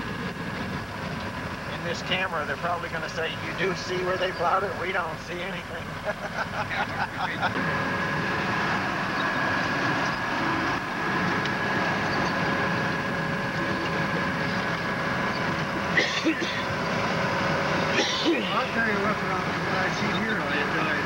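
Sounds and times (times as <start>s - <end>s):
snow vehicle engine running: 0.0s - 21.0s.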